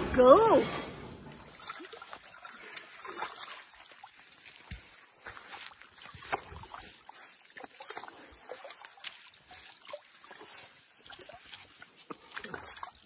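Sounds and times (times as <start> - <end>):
wet mud squelching: 0.0 - 13.0.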